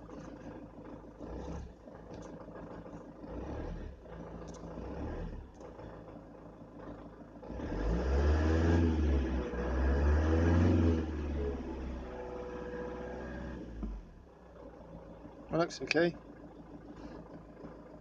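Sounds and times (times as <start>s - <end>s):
van engine idling and revving: 0.0s - 18.0s.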